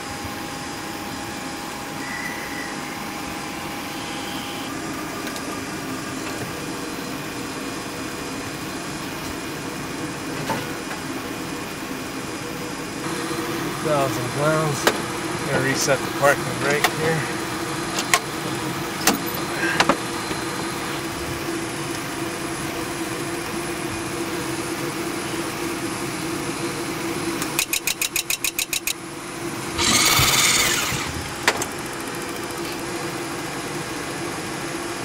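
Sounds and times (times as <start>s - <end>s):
steady machine hum: 0.0s - 10.4s, 11.1s - 27.4s, 29.0s - 35.0s.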